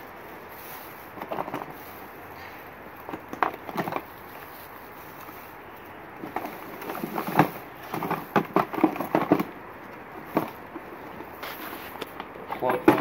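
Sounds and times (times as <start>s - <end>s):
plastic bags crinkling: 0.1s - 13.0s
hands rummaging through a drawer: 0.4s - 13.0s.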